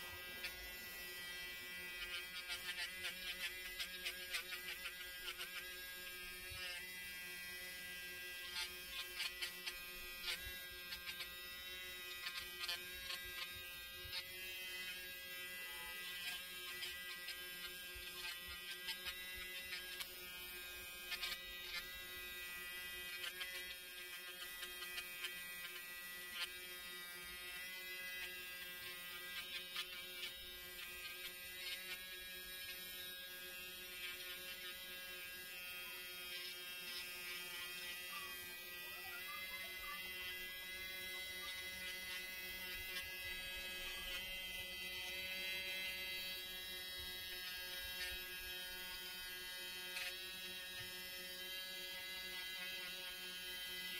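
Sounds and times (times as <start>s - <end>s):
electric nail drill whining: 0.0s - 53.9s.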